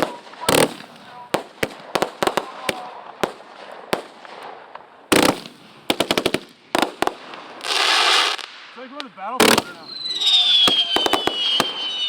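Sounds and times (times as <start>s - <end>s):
dense firework crackle: 0.0s - 12.0s
firework cracks: 0.0s - 12.0s
fireworks bangs: 0.0s - 12.0s.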